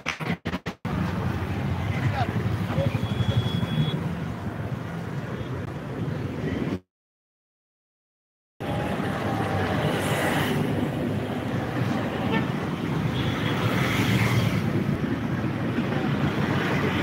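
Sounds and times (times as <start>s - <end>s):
road traffic rumble: 0.9s - 6.8s, 8.6s - 17.0s.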